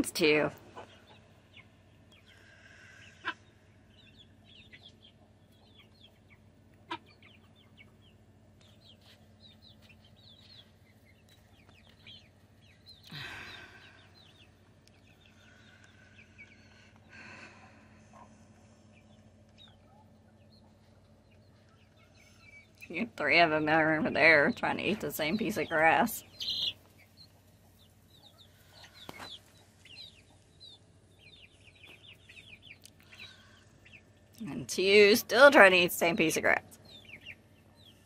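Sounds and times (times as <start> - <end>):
chicks peeping: 0.0 - 38.0.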